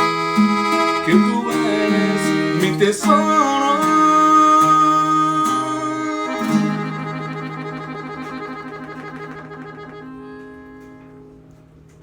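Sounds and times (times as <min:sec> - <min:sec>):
acoustic guitar chord ringing: 0:00.0 - 0:11.5.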